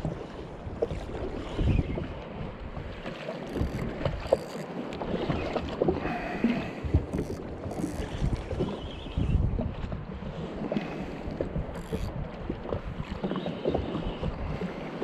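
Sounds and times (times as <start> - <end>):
wind buffeting microphone: 0.0 - 4.4, 5.0 - 14.8
small waves slapping a hull: 0.0 - 15.0.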